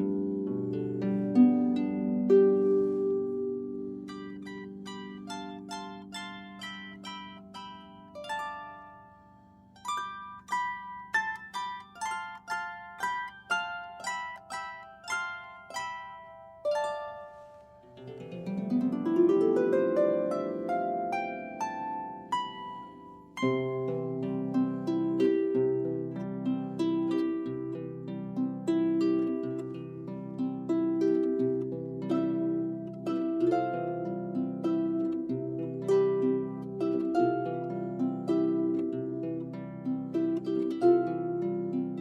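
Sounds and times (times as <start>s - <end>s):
solo harp playing: 0.0s - 42.0s.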